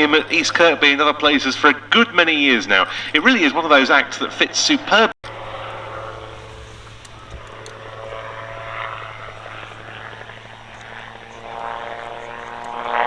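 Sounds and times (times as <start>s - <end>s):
aircraft engine and propeller drone: 0.0s - 13.0s.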